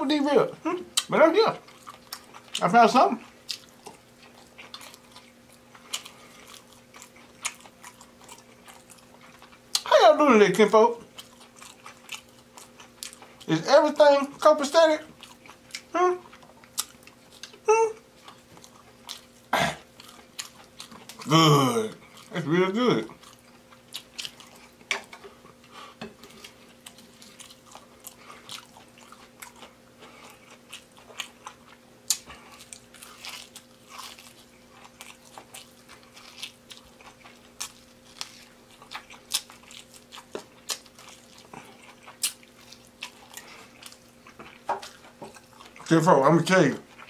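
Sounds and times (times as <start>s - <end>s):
faint steady hum: 0.0s - 47.0s
crisp crunching and chewing: 0.9s - 47.0s.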